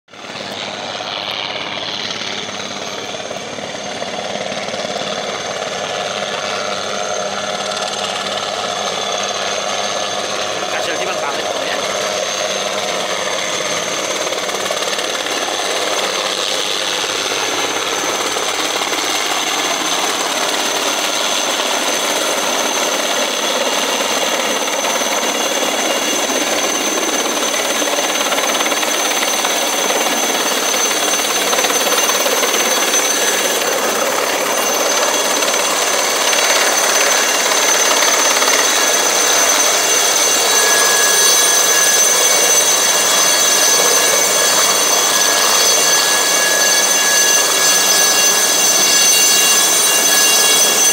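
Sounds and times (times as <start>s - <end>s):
helicopter rotor noise: 0.1s - 50.9s
helicopter turbine whine: 0.1s - 50.9s.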